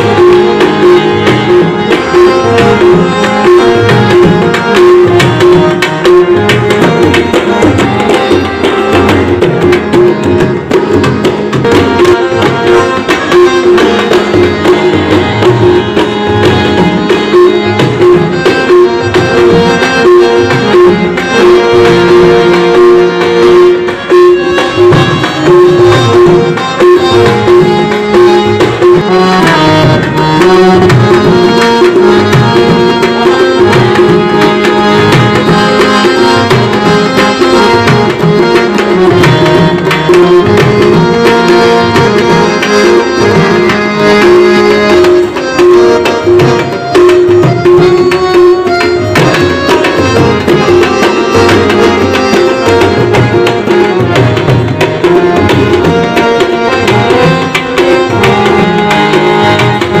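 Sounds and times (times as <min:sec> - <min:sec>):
tabla drumming: 0:00.0 - 1:00.0.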